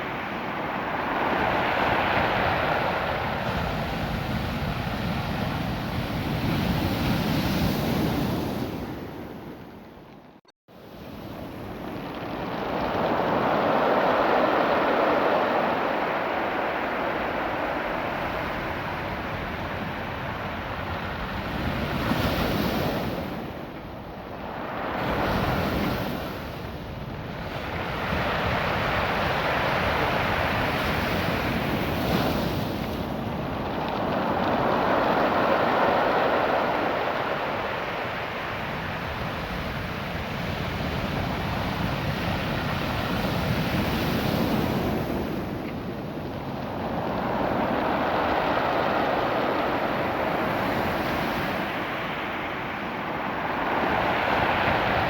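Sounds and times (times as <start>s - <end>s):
surf washing over pebbles: 0.0s - 6.8s, 11.0s - 55.0s
wind buffeting microphone: 0.0s - 55.0s.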